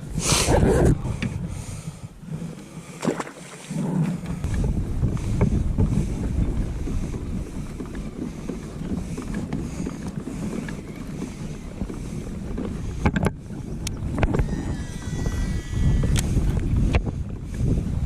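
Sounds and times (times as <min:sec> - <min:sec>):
wind buffeting microphone: 0:00.0 - 0:02.6, 0:03.8 - 0:18.0.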